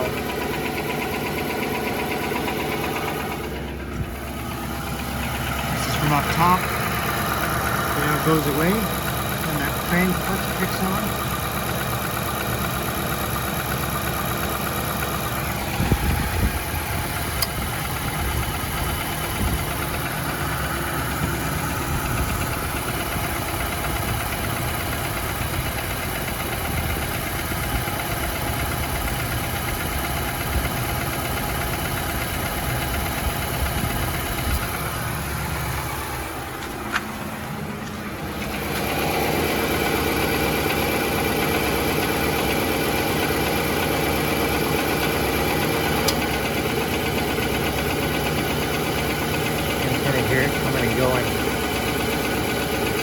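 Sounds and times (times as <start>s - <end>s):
loud engine thumps: 0.0s - 10.3s, 11.2s - 47.9s
car engine idling: 0.0s - 53.0s
engine ticking knock: 0.0s - 53.0s.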